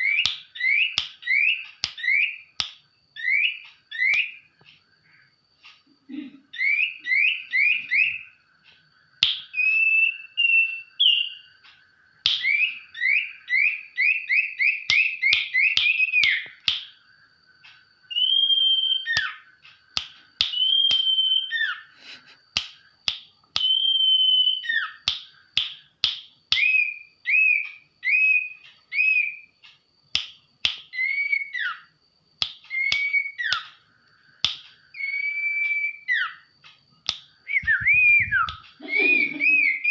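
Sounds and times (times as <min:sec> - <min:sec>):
sharp bird clicks: 0:00.0 - 0:05.9, 0:06.6 - 0:39.9
songbird whistling song: 0:00.0 - 0:39.9.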